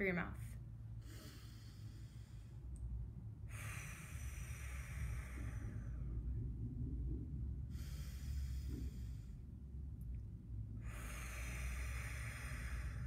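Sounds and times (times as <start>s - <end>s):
low steady hum: 0.0s - 13.0s
woman breathing deeply: 0.6s - 13.0s.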